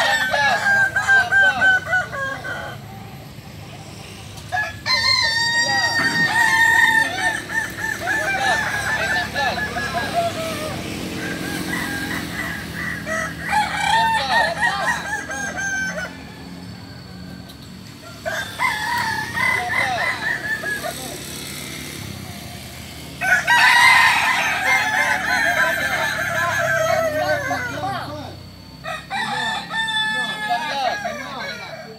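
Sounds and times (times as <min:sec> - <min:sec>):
roosters crowing: 0:00.0 - 0:31.9.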